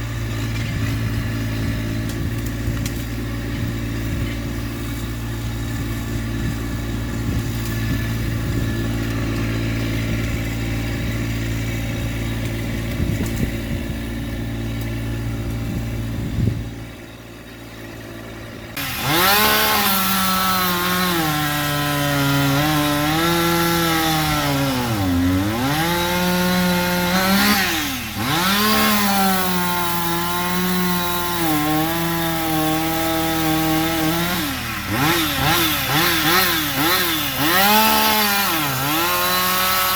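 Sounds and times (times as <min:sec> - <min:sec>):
chainsaw cutting wood: 0:00.0 - 0:39.9
tractor diesel engine running: 0:00.0 - 0:39.9.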